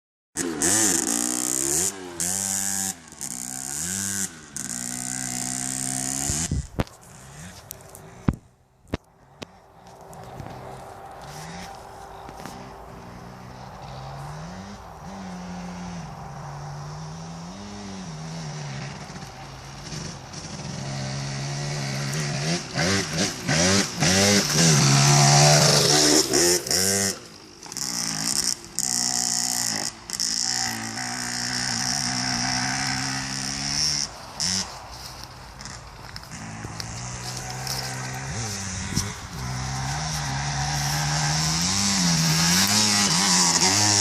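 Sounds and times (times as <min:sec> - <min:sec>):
motorcycle engine revving: 0:00.4 - 0:44.0.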